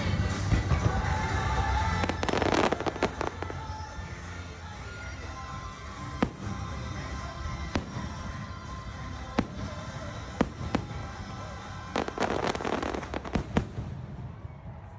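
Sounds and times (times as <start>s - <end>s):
music: 0.0s - 14.9s
fireworks crackling: 0.1s - 14.9s
fireworks bangs: 0.8s - 4.1s, 5.8s - 14.9s.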